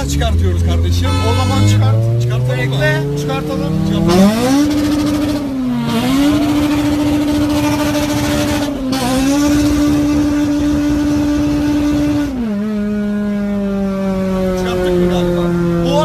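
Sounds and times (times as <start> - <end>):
car engine revving high: 0.0 - 16.0.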